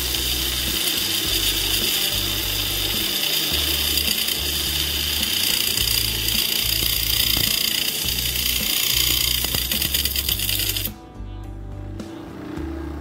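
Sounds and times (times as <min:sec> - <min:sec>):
bench grinder sharpening knife: 0:00.0 - 0:10.9.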